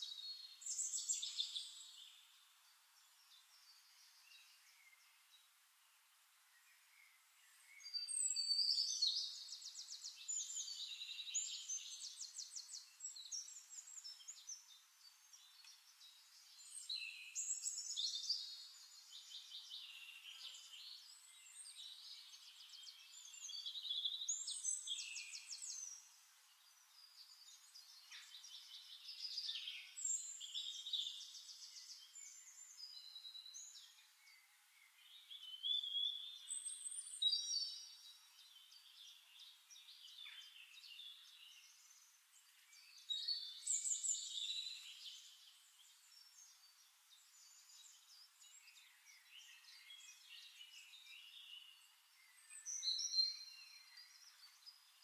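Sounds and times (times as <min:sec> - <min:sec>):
songbirds trilling and chirping: 0:00.0 - 0:55.0.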